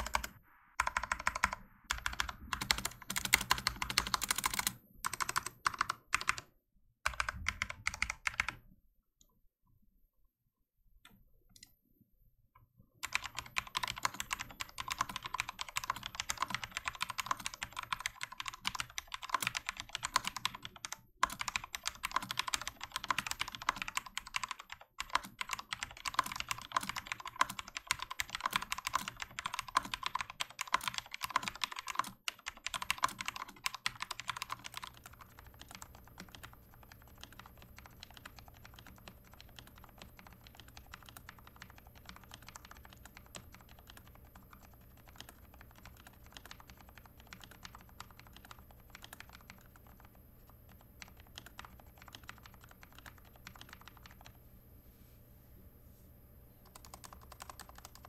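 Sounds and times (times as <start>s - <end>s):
fast typing on mechanical keyboard: 0.0s - 8.6s, 13.0s - 54.4s, 56.6s - 58.0s.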